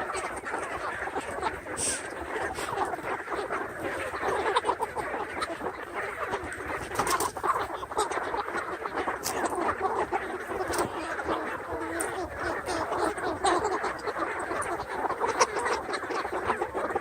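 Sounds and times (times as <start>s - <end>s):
chickens murmuring: 0.0s - 17.0s.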